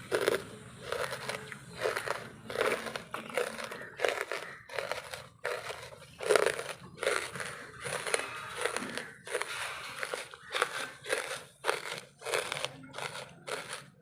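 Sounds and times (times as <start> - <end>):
chewing charcoal crunches: 0.0 - 14.0.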